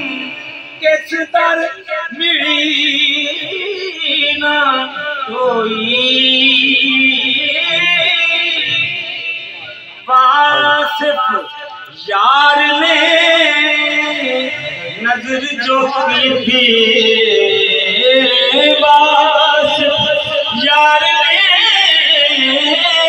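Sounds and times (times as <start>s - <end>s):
man singing into microphone: 0.0s - 23.0s.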